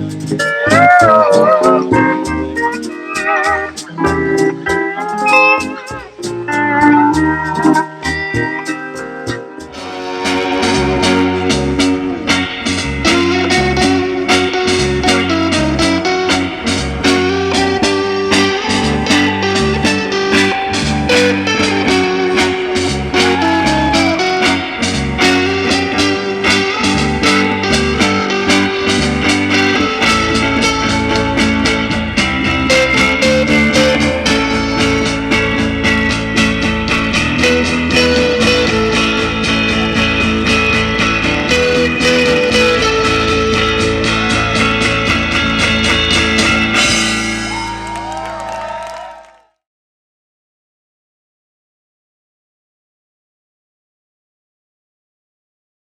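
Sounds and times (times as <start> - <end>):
surf rock music: 0.0 - 48.6.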